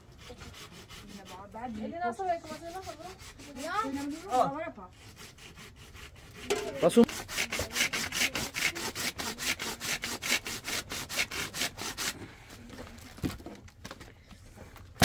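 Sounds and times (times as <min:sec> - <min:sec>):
hand saw cutting wood: 0:00.0 - 0:12.3.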